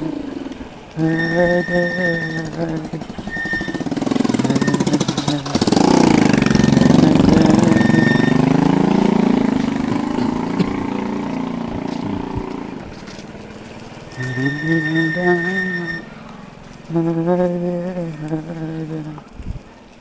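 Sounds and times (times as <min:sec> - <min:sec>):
motorbike engine running: 0:00.0 - 0:19.1.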